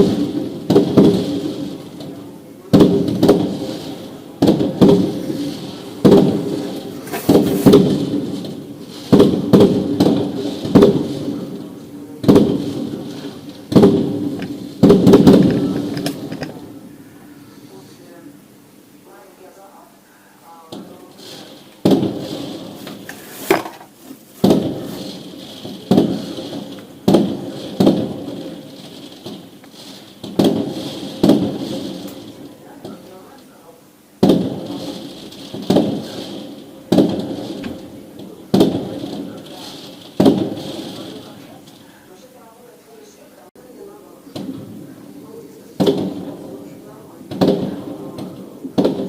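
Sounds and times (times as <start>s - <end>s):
fireworks booming: 0.0s - 18.9s, 20.5s - 49.0s
steady hiss: 0.0s - 49.0s.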